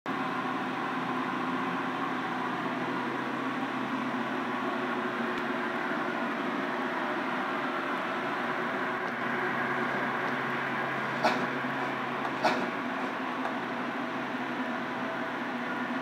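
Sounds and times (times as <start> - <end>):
blower fan whirring: 0.1 - 16.0.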